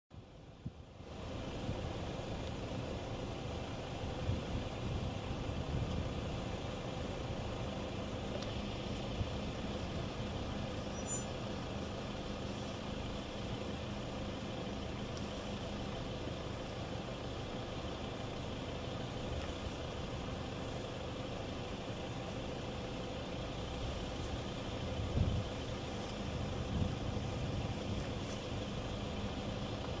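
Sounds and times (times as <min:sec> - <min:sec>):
vehicle engine idling: 0:00.2 - 0:30.0.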